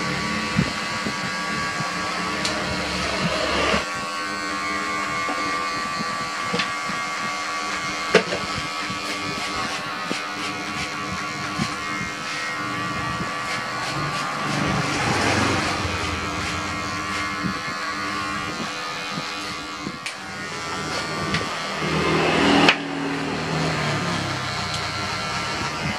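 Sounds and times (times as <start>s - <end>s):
electric hair clipper buzzing: 0.0s - 25.9s.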